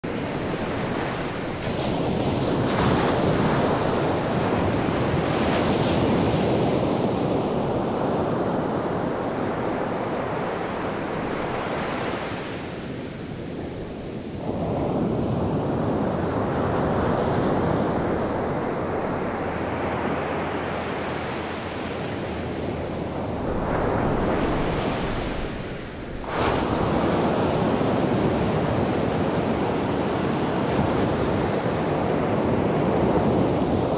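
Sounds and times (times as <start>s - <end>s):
ocean waves breaking on beach: 0.0s - 33.9s.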